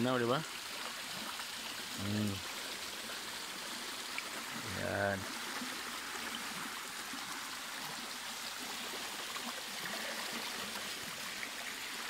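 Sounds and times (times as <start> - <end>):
creek water rushing over rock: 0.0 - 12.0.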